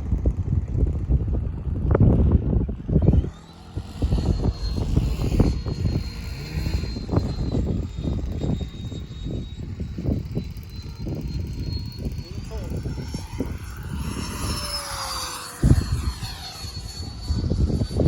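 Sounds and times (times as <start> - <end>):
electric ducted fan whining: 0.0 - 18.0
wind buffeting microphone: 0.0 - 18.0.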